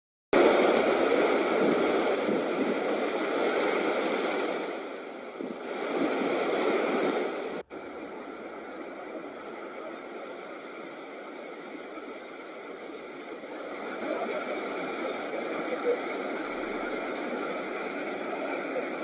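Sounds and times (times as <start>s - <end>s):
floodwater rushing: 0.4s - 19.0s.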